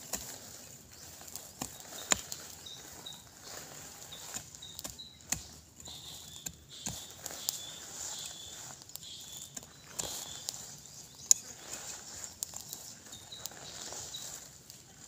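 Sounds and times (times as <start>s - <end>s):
dry leaves and twigs rustling snapping: 0.0s - 15.0s
faint high chirping: 0.9s - 15.0s.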